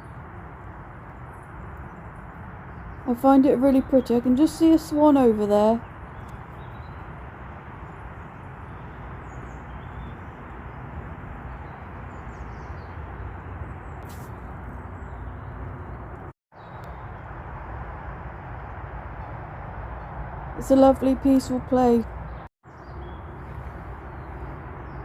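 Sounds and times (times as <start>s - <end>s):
outdoor rushing noise: 4.6s - 25.0s.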